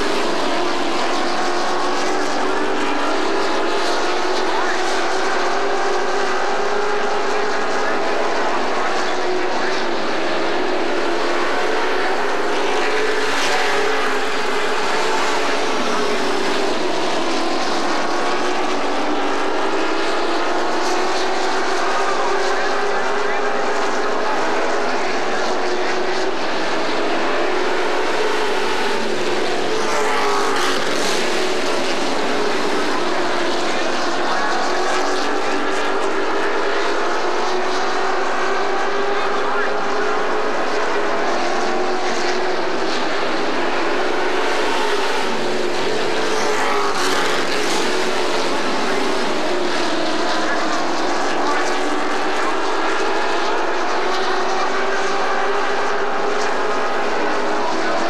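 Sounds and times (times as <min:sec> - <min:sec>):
race truck engines droning: 0:00.0 - 0:58.0.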